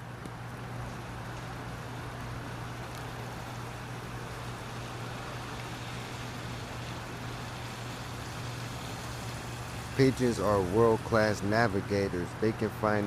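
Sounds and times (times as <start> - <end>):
constant low hum: 0.0 - 13.0
rain hiss: 0.0 - 13.0.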